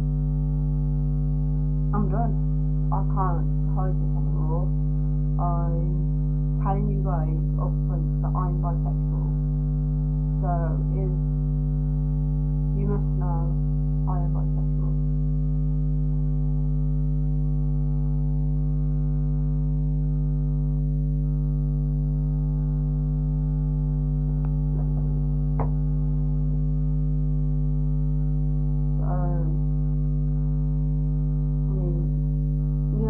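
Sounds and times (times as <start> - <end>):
low buzzing hum: 0.0 - 33.0.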